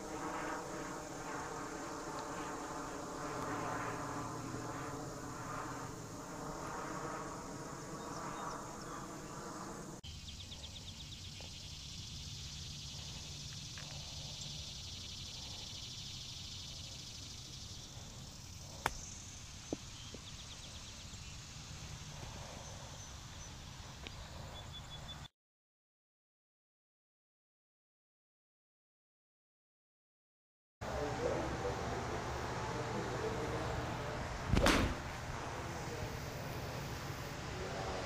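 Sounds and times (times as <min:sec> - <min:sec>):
steady mechanical hum: 0:00.0 - 0:25.2, 0:30.8 - 0:38.0
insects trilling faintly: 0:00.0 - 0:25.3, 0:30.9 - 0:38.0.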